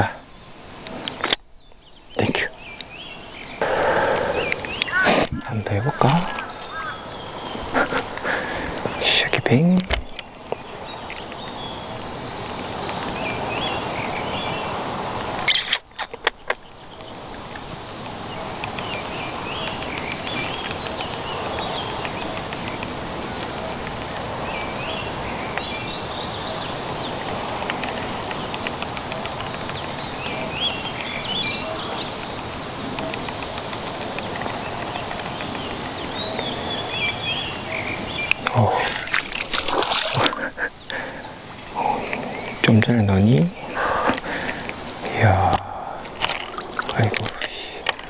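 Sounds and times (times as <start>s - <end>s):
outdoor background hiss: 0.0s - 48.0s
wild birds chirping and singing: 0.0s - 48.0s.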